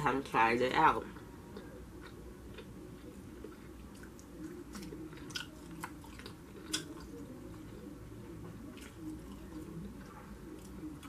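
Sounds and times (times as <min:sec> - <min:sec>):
person chewing meat: 0:01.2 - 0:11.0.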